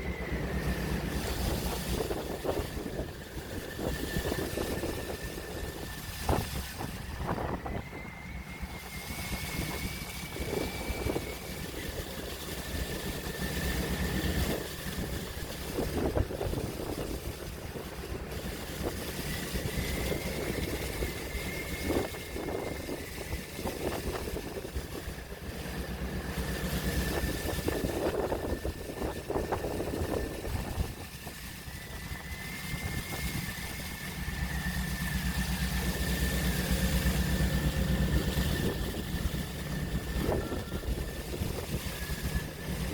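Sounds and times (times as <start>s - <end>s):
faint high whine: 0.0s - 42.9s
low engine drone: 0.0s - 42.9s
sea waves washing: 0.0s - 42.9s.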